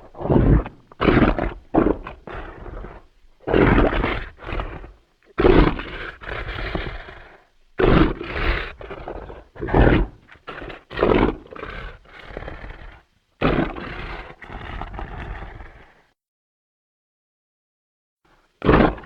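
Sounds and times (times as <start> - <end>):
loud animal roars: 0.0 - 16.0, 18.6 - 19.0.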